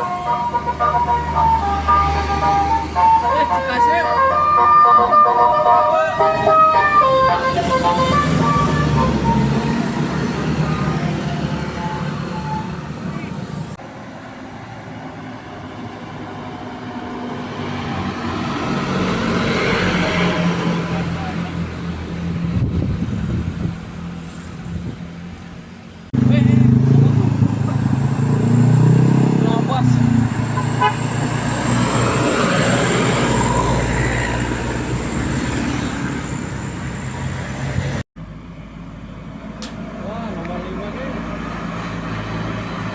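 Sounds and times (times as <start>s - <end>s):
bus engine and tyre noise: 0.0s - 42.9s
quiet traffic: 0.0s - 42.9s
road noise: 0.0s - 42.9s.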